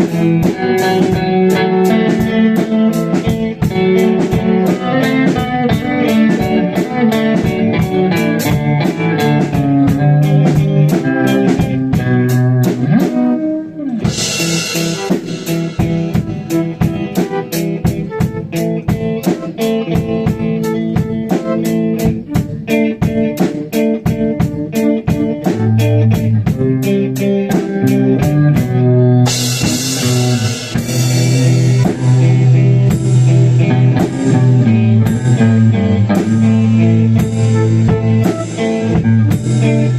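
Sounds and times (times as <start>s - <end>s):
live band playing instrumental: 0.0s - 39.9s.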